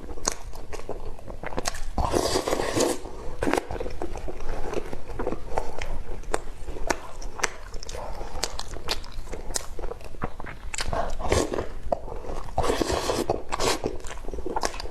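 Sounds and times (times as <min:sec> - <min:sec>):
mouth clicks and smacks: 0:00.0 - 0:14.9
wet chewing: 0:00.0 - 0:14.9.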